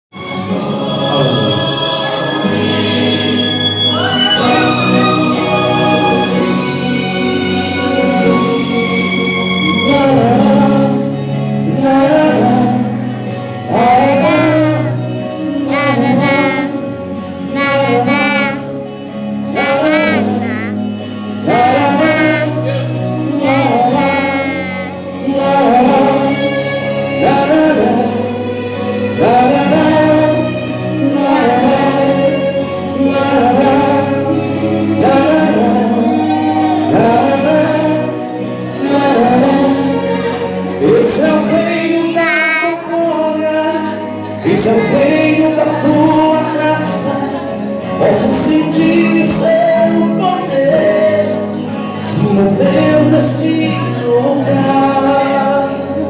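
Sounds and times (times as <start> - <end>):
gospel singing with accompaniment: 0.1 - 56.0.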